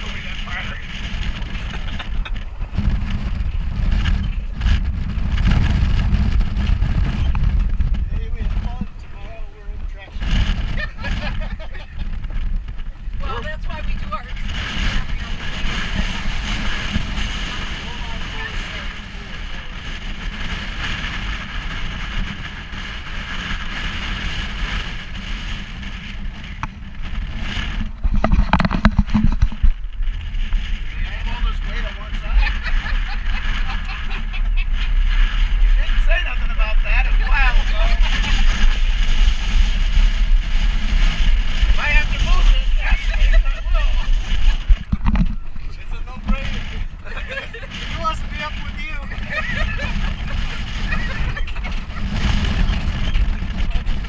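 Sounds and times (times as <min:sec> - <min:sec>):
knocks and rattles over rough ground: 0:00.0 - 0:09.2, 0:09.9 - 0:18.5, 0:19.7 - 0:54.0
road noise: 0:00.0 - 0:54.0
truck engine and tyres rumbling: 0:00.0 - 0:54.0
wind on microphone: 0:00.0 - 0:54.0.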